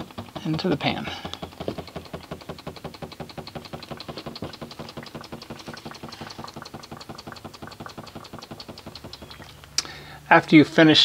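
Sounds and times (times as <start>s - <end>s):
machine knocking rapidly: 0.0s - 9.6s
low hum: 0.0s - 11.0s.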